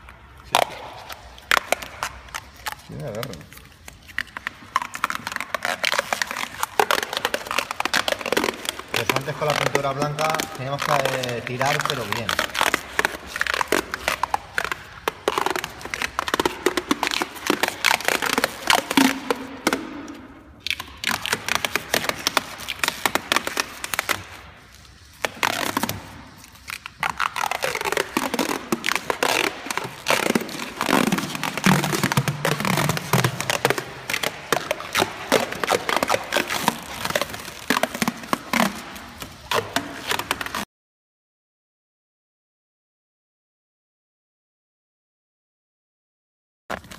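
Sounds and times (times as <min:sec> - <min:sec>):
rubber coating peeling crackle: 0:00.0 - 0:40.6.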